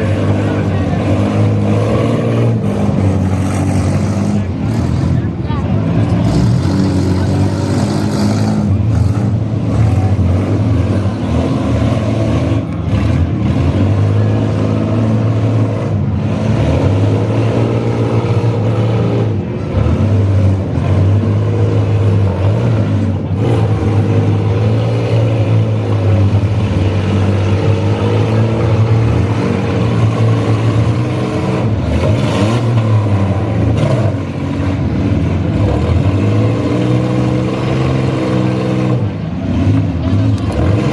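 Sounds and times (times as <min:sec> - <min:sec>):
engines revving hard: 0:00.0 - 0:40.9.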